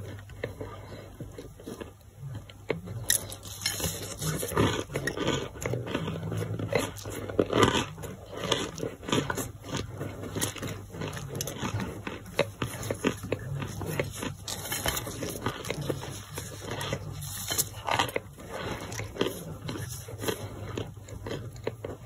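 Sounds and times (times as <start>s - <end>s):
crunching and chewing clay: 0.0s - 22.0s.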